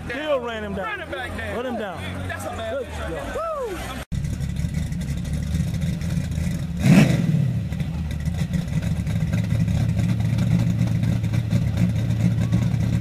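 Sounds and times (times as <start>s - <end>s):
car engine droning and revving: 1.2s - 13.0s.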